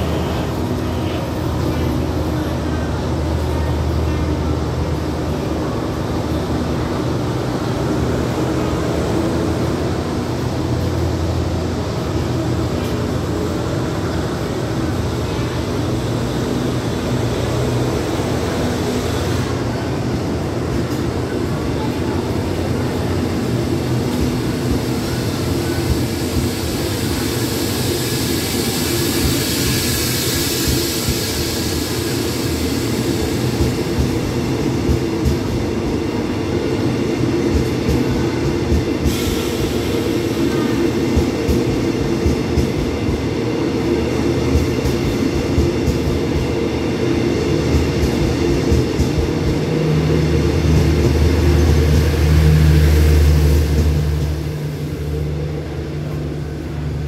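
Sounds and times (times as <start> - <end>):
diesel locomotive rumbling: 0.0 - 57.0
train hiss: 0.0 - 57.0.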